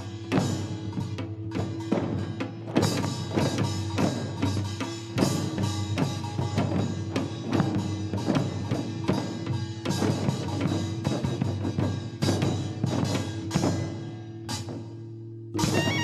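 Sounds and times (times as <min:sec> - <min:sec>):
barrel drums struck with sticks: 0:00.0 - 0:16.0.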